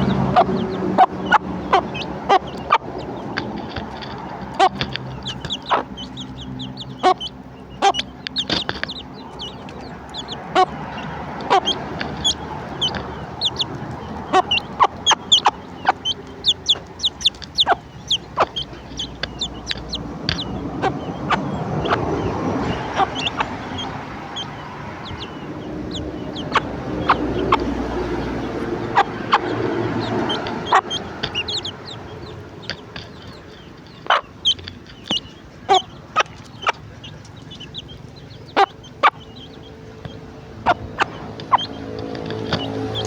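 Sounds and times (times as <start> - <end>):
chicks peeping: 0.0 - 43.0
hen clucking: 0.0 - 43.0
sharp clicks: 0.0 - 43.0.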